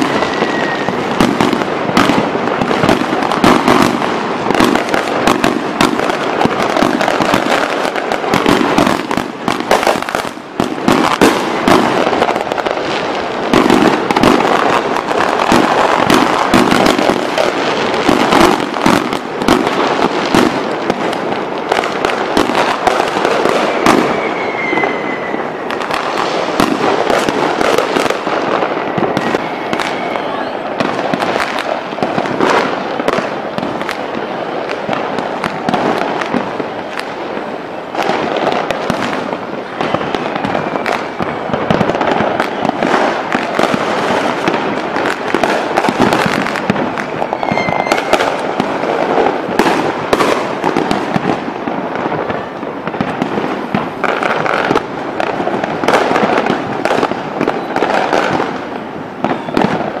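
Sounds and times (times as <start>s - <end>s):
fireworks bangs and crackles: 0.0s - 60.0s.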